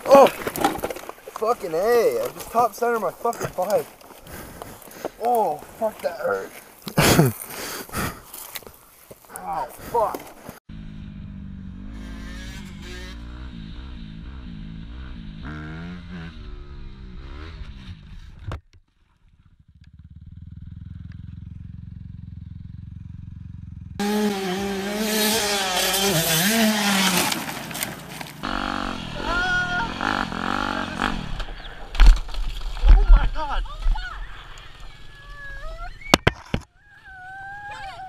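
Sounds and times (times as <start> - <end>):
dirt bike engines revving: 0.0 - 8.6, 10.7 - 18.3, 20.1 - 32.0, 33.0 - 36.1.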